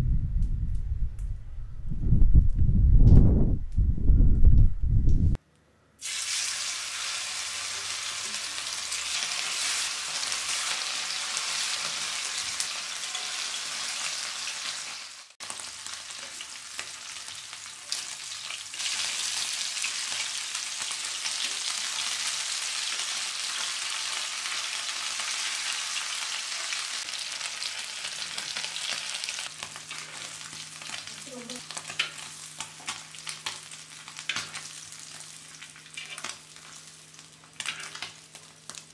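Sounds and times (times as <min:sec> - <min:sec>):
fish sizzling in hot oil: 0:06.0 - 0:38.9.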